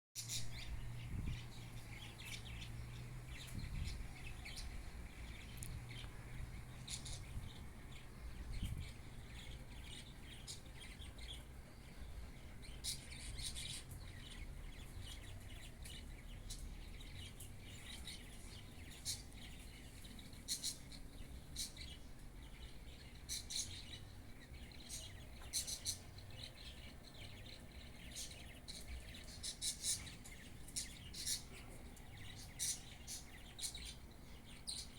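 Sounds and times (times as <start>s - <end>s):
birds chirping: 0.2s - 34.9s.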